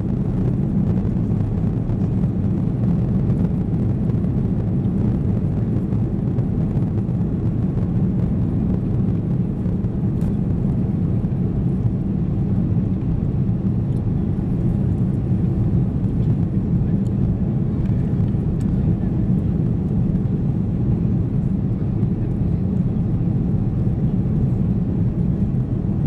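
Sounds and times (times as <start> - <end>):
jet engines at high thrust: 0.0 - 26.0.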